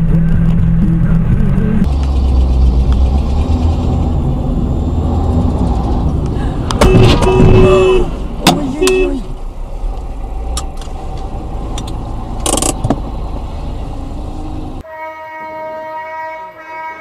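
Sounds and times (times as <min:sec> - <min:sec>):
car engine and road noise: 0:00.0 - 0:14.9.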